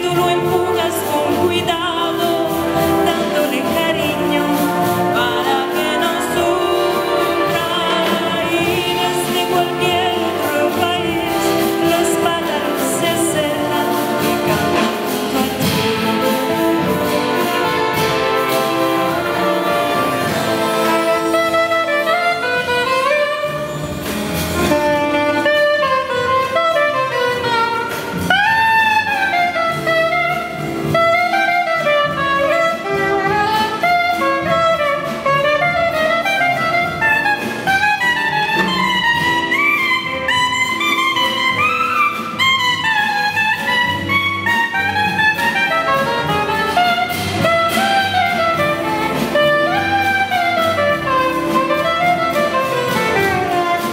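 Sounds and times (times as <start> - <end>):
jazz big band backing: 0.0 - 53.9
soprano saxophone melody: 0.0 - 53.9.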